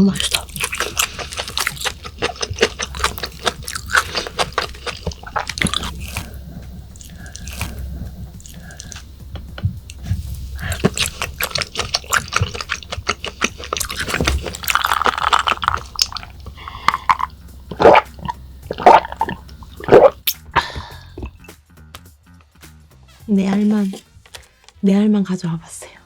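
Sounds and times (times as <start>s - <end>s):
wet chewing sounds: 0.0s - 21.6s
sharp mouth clicks: 0.2s - 21.6s.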